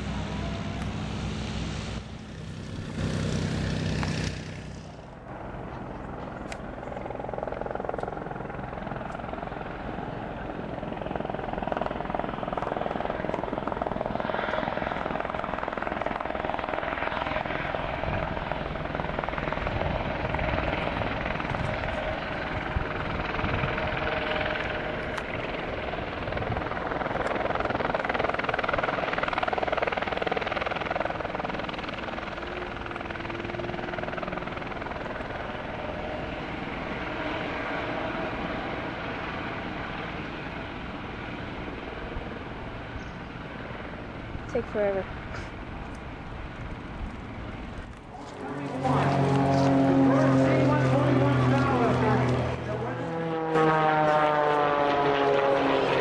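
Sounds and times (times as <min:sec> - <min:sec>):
helicopter rotor drone: 0:00.0 - 0:56.0
steady engine hum: 0:00.0 - 0:56.0.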